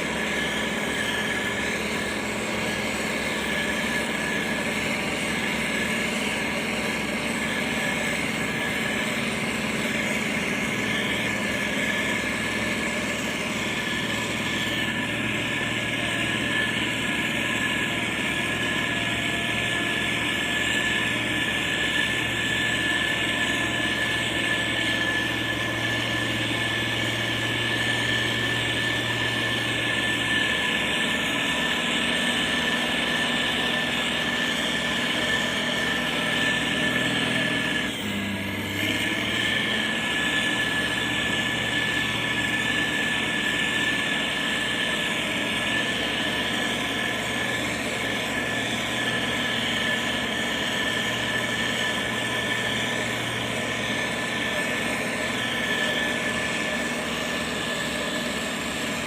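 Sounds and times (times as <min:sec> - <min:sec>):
diesel engine running: 0:00.0 - 0:59.0
high whine: 0:00.0 - 0:59.0.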